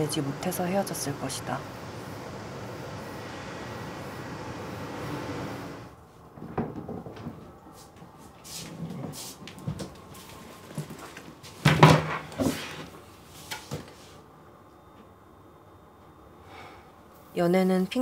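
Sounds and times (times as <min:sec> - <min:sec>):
steady outdoor hiss: 0:00.0 - 0:06.4, 0:07.6 - 0:18.0.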